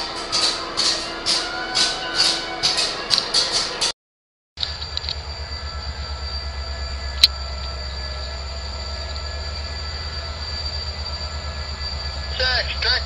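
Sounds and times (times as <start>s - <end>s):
train rumbling: 0.0s - 4.0s, 4.6s - 13.0s.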